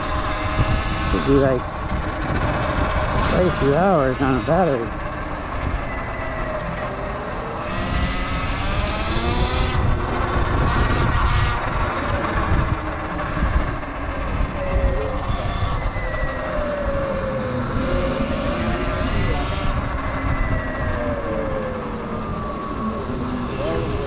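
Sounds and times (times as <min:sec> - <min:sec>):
electric motor whining: 0:00.0 - 0:24.0
riding noise rumble: 0:00.0 - 0:24.0.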